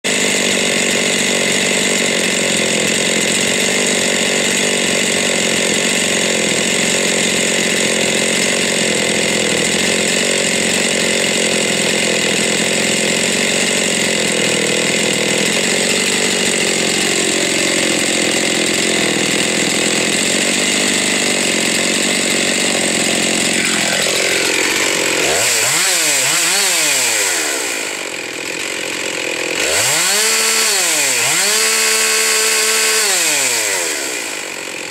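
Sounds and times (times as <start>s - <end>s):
chainsaw cutting log: 0.0s - 34.9s.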